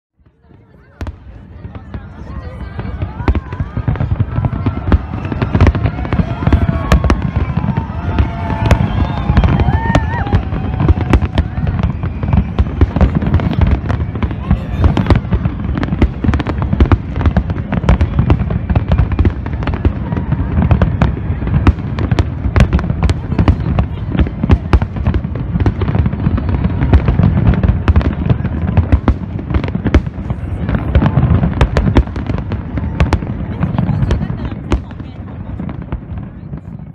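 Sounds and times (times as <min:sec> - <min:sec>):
fireworks sharp bangs: 0:00.2 - 0:36.9.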